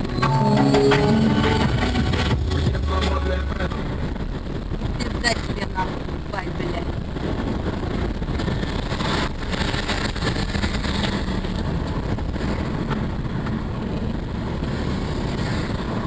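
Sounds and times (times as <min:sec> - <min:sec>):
car engine and tyre noise: 0:00.0 - 0:16.0.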